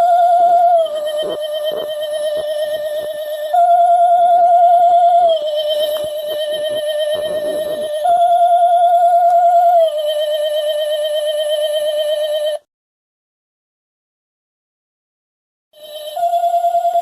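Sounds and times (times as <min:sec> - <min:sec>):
eerie wavering electronic tone: 0:00.0 - 0:12.6, 0:15.8 - 0:17.0.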